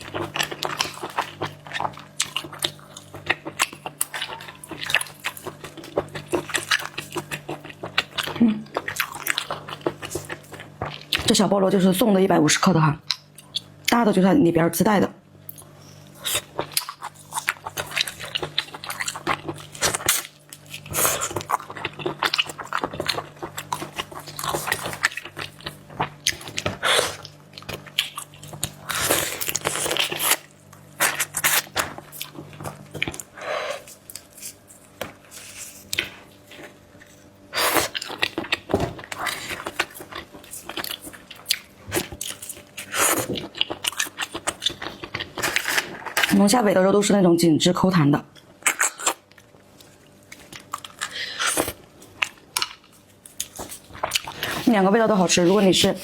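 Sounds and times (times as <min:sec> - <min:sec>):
chewing and crunching seafood: 0:00.0 - 0:14.2, 0:15.3 - 0:46.6, 0:48.3 - 0:56.0.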